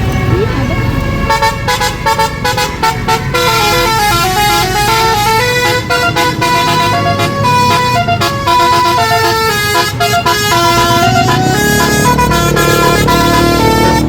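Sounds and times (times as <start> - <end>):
low engine rumble: 0.0 - 14.0
electric trumpet horns playing a tune: 0.2 - 14.0.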